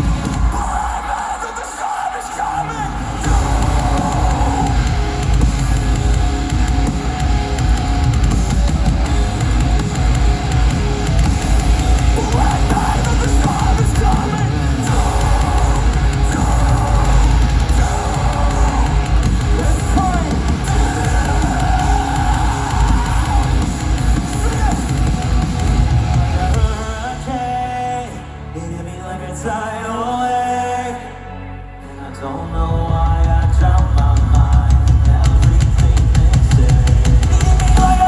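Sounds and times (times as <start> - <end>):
heavy rock band playing: 0.0 - 31.0, 31.8 - 38.0.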